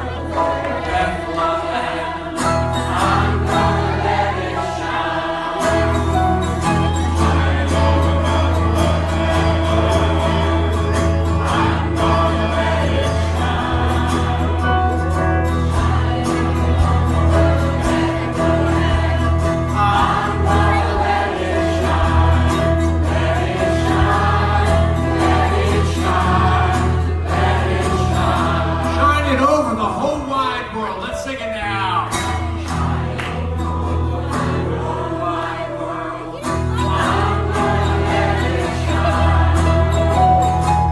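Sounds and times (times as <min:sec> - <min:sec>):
group singing with instruments: 0:00.0 - 0:29.9, 0:32.0 - 0:40.9.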